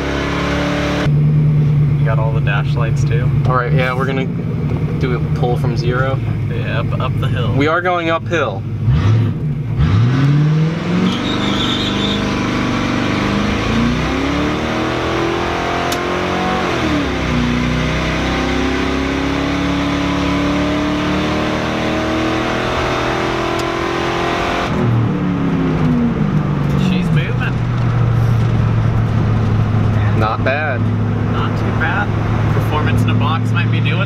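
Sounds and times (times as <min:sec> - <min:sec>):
car engine at full throttle: 0:00.0 - 0:34.0.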